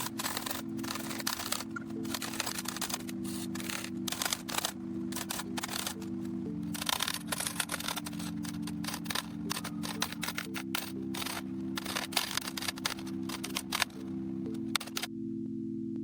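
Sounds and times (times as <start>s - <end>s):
manual typewriter typing: 0.0s - 15.1s
low background music: 0.0s - 16.0s.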